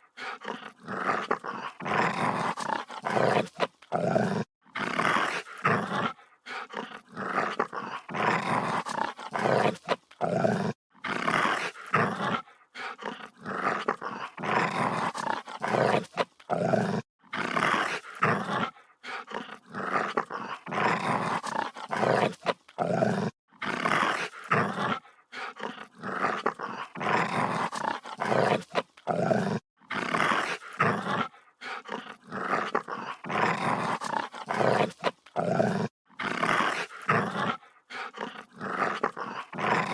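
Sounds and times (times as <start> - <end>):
dog growling and snarling: 0.0 - 39.9.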